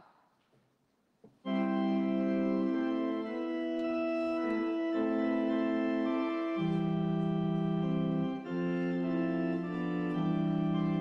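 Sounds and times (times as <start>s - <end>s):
organ playing held chords: 1.4s - 11.0s.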